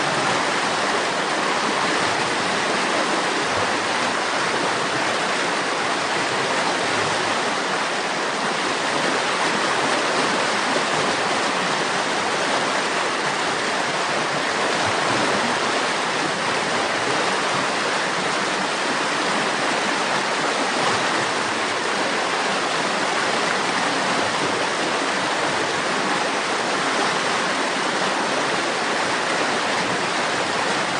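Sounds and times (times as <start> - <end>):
river water rushing over rocks: 0.0 - 30.9.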